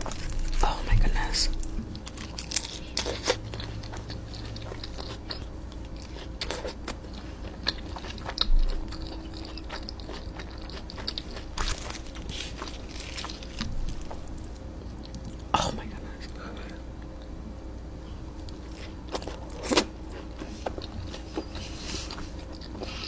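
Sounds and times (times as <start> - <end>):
person chewing crunchy food: 0.0 - 17.3, 18.2 - 23.0.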